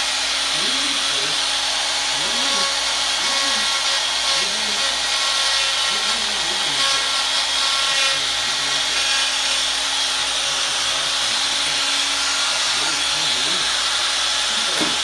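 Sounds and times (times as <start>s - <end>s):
die grinder whining: 0.0s - 15.0s.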